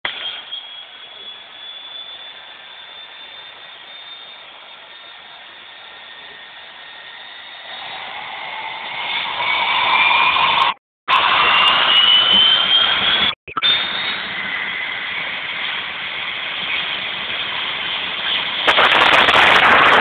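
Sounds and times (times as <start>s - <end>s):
turboprop engines whining: 0.1s - 20.0s.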